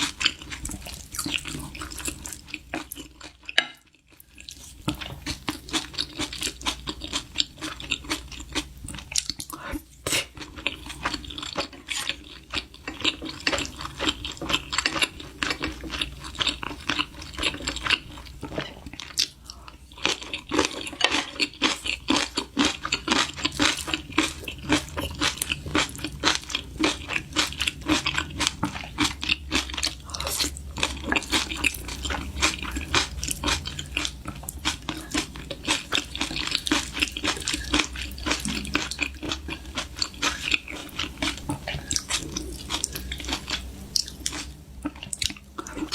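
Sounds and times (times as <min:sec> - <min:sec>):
person crunching crisp food: 0:04.2 - 0:45.9.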